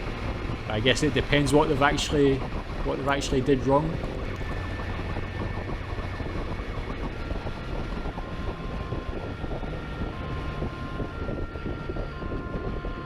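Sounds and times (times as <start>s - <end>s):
siren: 0.0s - 13.0s
wind rush at speed: 0.0s - 13.0s.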